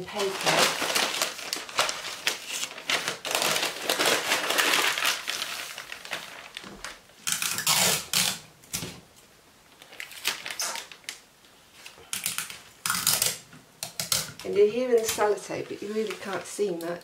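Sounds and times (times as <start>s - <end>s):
packing paper rustling: 0.0s - 8.4s, 9.7s - 13.4s, 15.0s - 17.0s.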